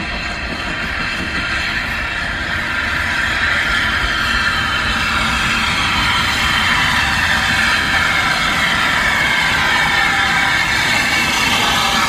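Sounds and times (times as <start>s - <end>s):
high wheel squeal: 0.0s - 12.0s
steam train rumbling: 0.0s - 12.0s.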